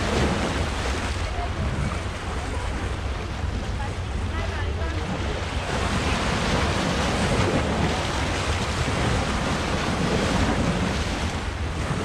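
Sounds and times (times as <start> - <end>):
sea waves washing: 0.0 - 12.0
wind rumbling on microphone: 0.0 - 12.0.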